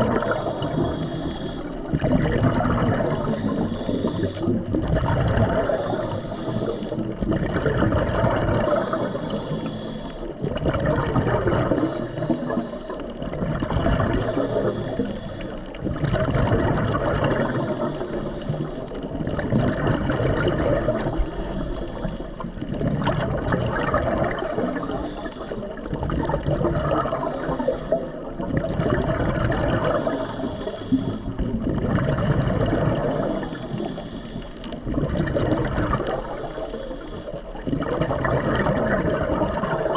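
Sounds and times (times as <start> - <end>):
underwater breathing bubbles: 0.0 - 39.9.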